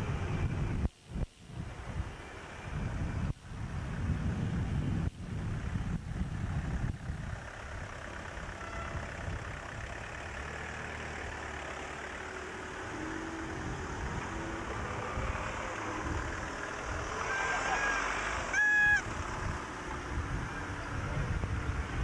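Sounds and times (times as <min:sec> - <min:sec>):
cars driving slowly past: 0:01.5 - 0:22.0.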